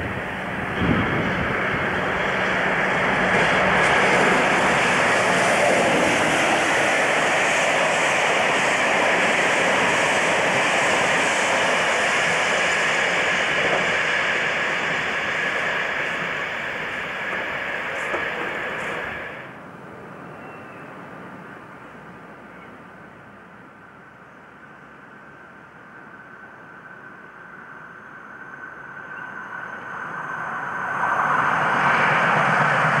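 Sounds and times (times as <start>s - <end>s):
diesel train passing roar: 0.0s - 33.0s.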